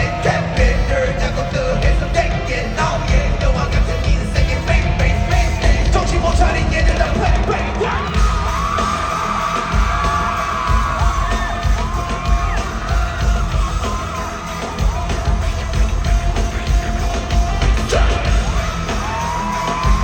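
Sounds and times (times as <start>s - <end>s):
crowd screaming and cheering: 0.0s - 20.0s
loud pop music with heavy bass: 0.0s - 20.0s.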